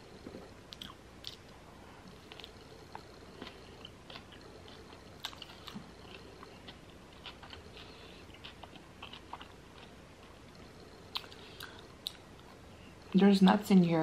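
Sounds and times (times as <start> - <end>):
chewing with wet clicks: 0.7 - 13.2.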